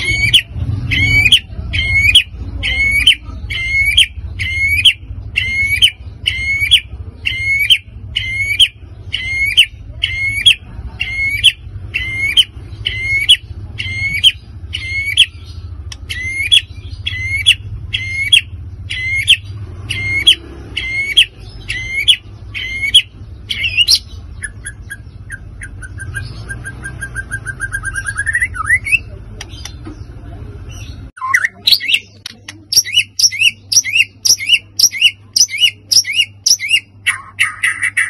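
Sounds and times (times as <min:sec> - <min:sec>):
bird singing loudly: 0:00.0 - 0:29.8, 0:30.7 - 0:38.0.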